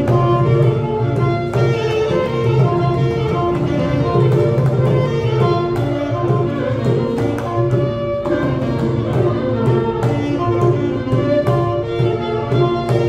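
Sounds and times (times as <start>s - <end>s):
saxophone melody: 0.0s - 12.9s
hand drum strokes: 0.0s - 13.0s
violin melody: 0.0s - 13.0s.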